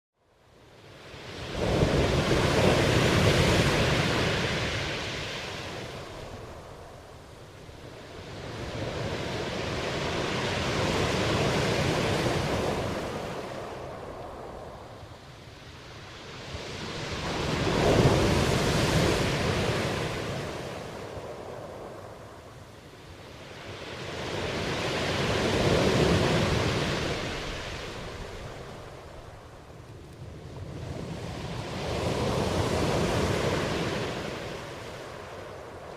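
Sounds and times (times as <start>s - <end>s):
waves washing onto shore: 0.6s - 35.9s.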